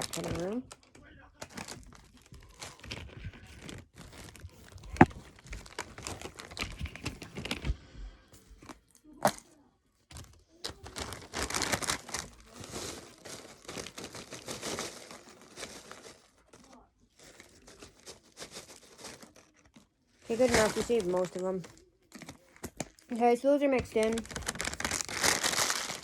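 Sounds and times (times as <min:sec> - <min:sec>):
snack packaging crinkling: 0:00.0 - 0:07.8, 0:10.1 - 0:26.0.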